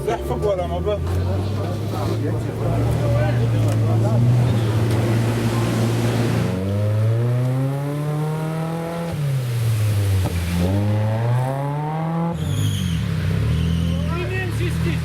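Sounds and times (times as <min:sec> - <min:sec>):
engine revving hard: 0:01.4 - 0:09.2, 0:10.5 - 0:15.0.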